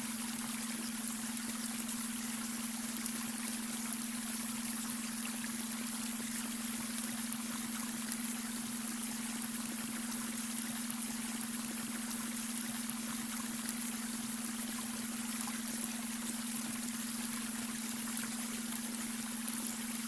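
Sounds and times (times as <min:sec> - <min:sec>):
water running and trickling: 0:00.0 - 0:20.0.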